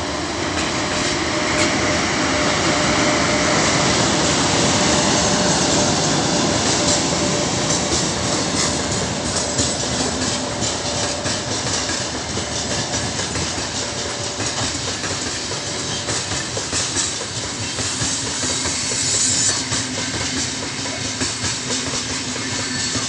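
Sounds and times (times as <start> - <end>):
freight train wagons rolling: 0.0 - 23.0
wheels clicking over rail joints: 2.7 - 23.0.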